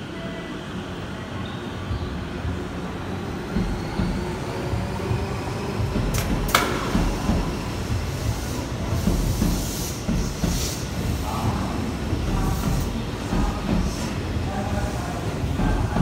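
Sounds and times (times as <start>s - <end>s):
electric train rolling past: 0.0s - 16.0s.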